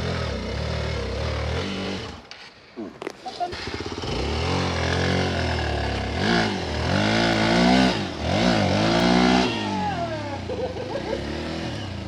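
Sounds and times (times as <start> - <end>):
motorcycle engine revving hard: 0.0 - 2.3, 3.5 - 12.0.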